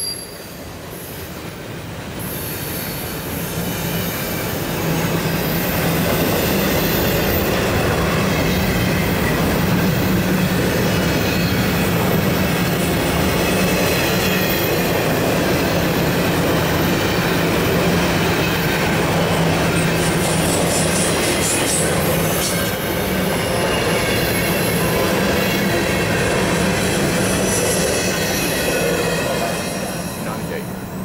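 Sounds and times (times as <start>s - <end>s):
steel wheels on rails: 0.0s - 31.0s.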